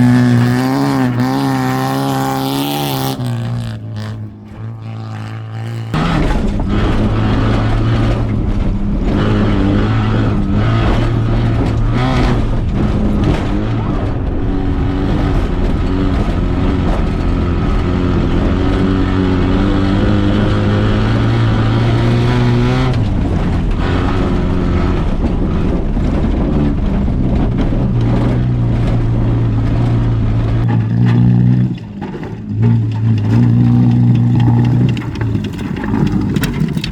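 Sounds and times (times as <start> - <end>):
car engine at high revs: 0.0 - 36.9.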